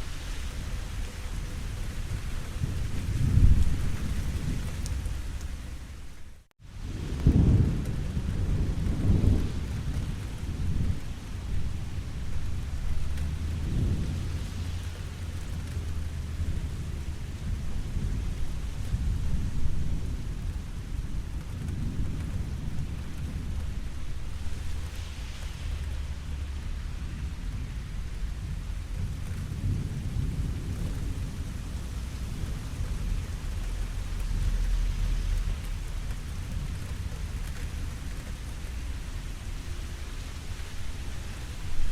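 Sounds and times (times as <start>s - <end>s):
steady rain falling: 0.0s - 41.9s
rolling thunder: 1.5s - 5.8s, 6.7s - 41.9s.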